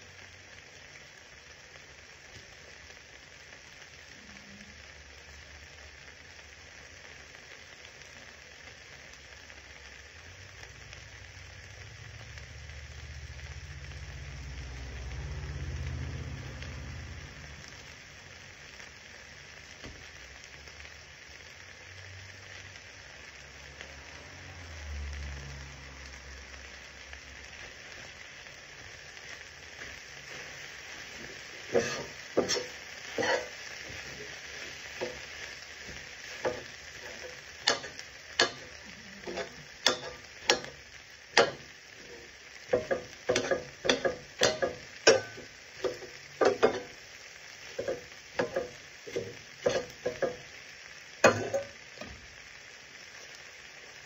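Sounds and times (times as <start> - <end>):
meat and vegetables sizzling: 0.0 - 54.0.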